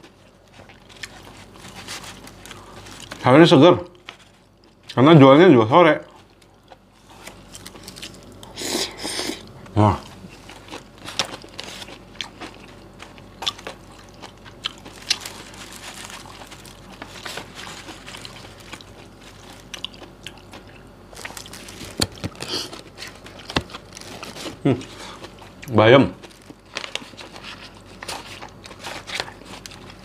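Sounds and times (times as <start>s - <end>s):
chewing and crunching salad: 0.0s - 30.0s.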